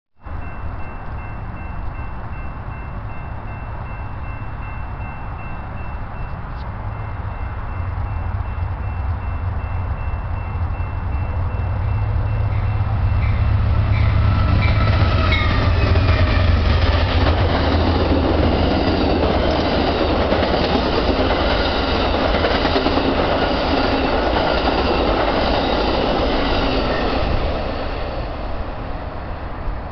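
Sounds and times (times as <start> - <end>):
diesel locomotive rumble: 0.3 - 29.9
train cars rushing and clattering: 0.3 - 29.9.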